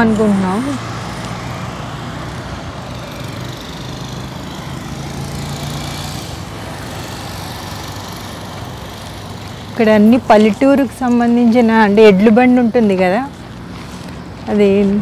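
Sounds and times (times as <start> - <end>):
engine humming: 0.0 - 15.0
traffic noise: 0.0 - 15.0.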